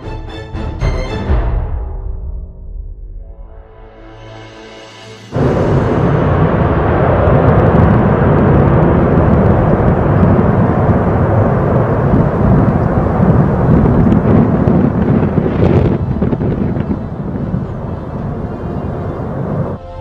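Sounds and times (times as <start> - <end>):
aircraft engine roar: 3.6 - 20.0.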